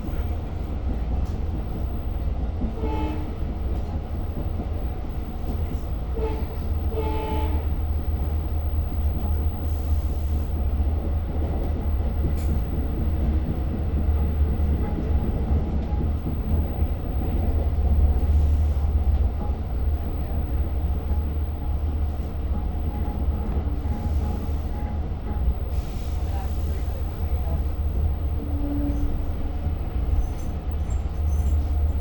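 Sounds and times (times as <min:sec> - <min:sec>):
train rumbling from inside coach: 0:00.0 - 0:32.0.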